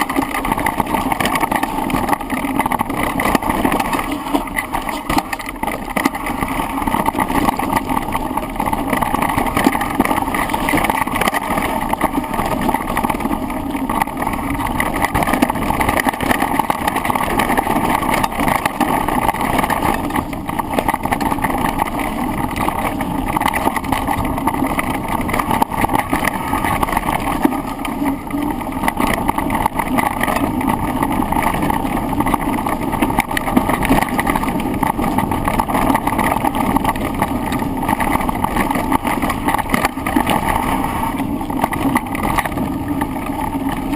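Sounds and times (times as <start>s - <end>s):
bike rattle: 0.0s - 43.9s
tyres rolling: 0.0s - 43.9s.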